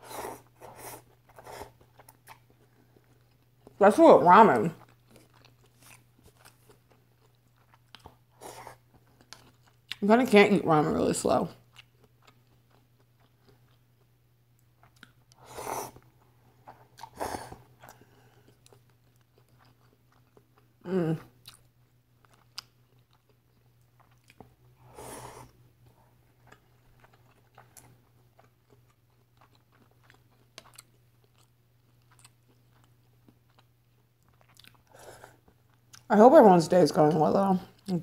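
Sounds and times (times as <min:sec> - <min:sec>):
wet chewing: 0:00.3 - 0:03.8, 0:04.7 - 0:10.0, 0:11.6 - 0:20.7, 0:21.4 - 0:36.1.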